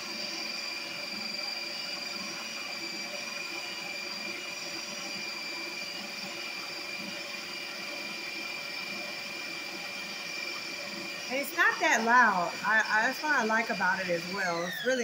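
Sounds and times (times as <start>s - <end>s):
ice cream maker motor whine: 0.0s - 15.0s.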